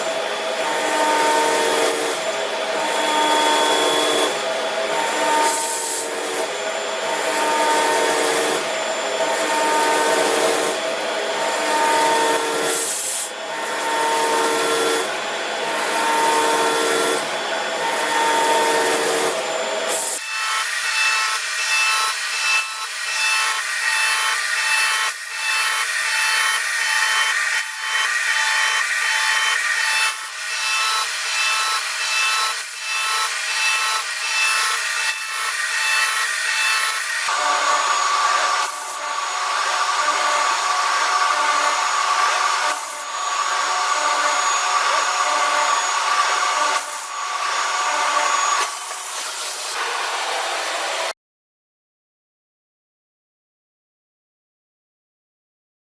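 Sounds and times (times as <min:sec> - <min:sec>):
machine tool cutting metal: 0:00.1 - 0:49.9.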